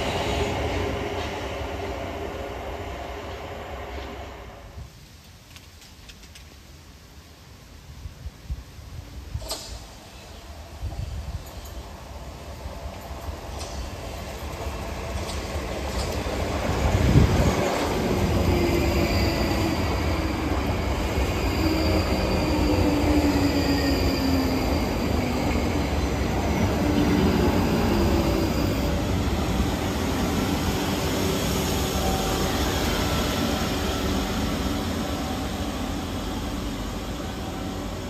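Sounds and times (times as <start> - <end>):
train wheels rumbling on rails: 0.0 - 4.8, 9.2 - 38.0.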